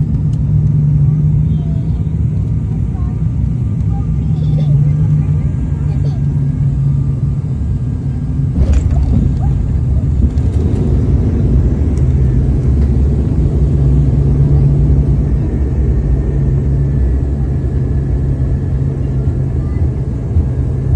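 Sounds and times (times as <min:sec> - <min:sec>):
airliner engines and wheels rumbling: 0:00.0 - 0:20.9.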